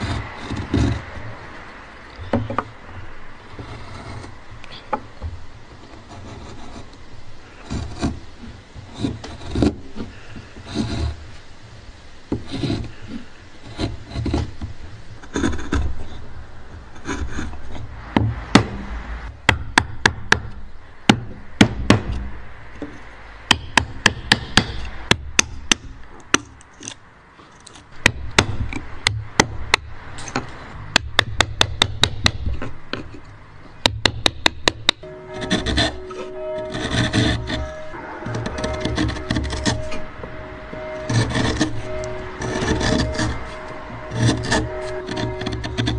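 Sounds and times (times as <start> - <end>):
wood rubbing and scraping: 0.0 - 45.9.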